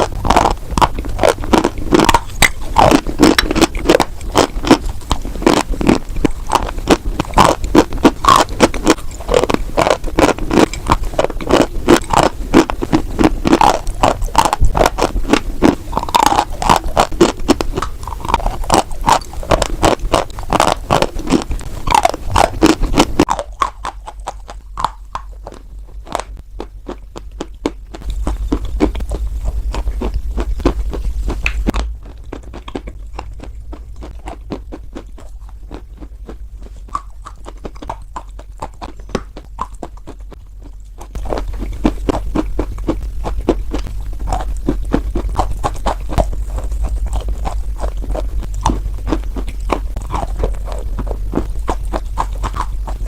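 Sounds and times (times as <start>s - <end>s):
low hum: 0.0s - 53.0s.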